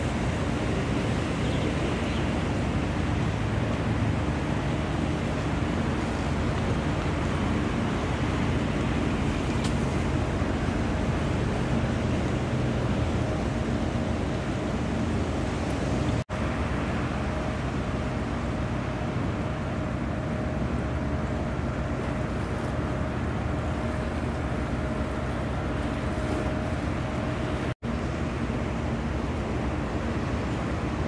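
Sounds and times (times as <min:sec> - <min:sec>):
low machinery hum: 0:00.0 - 0:31.0.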